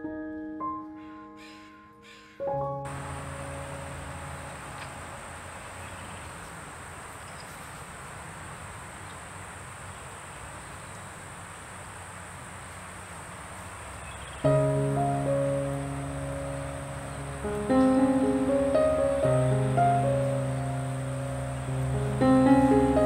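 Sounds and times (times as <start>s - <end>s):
soft outdoor hiss: 2.8s - 23.0s
insects droning: 2.9s - 23.0s.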